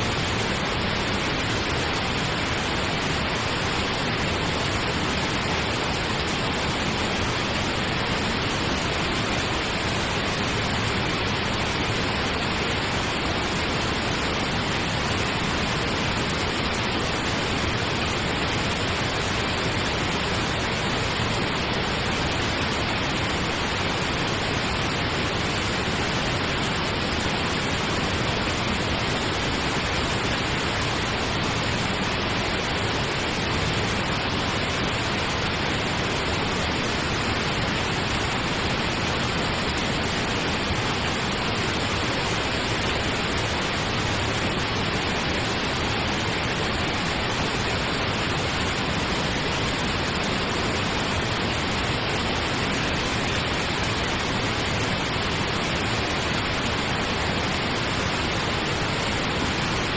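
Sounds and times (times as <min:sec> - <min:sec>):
steady pink noise: 0:00.0 - 0:59.9.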